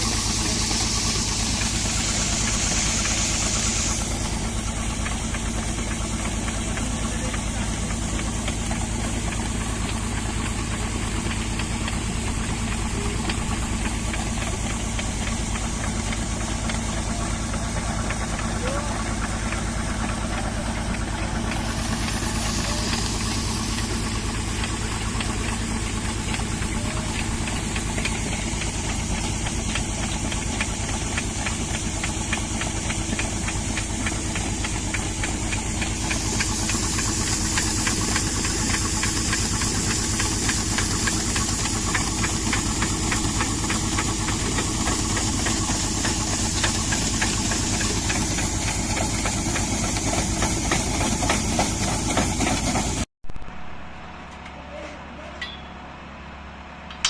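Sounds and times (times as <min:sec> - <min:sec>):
engine knocking: 0:00.0 - 0:53.1.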